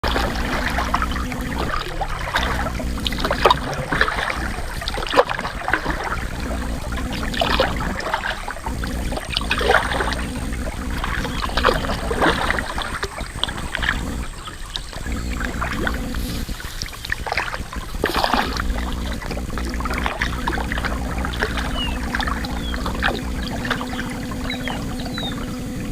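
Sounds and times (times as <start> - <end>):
paddle strokes splashing in water: 0.0 - 25.9
steady low rumble: 0.0 - 25.9.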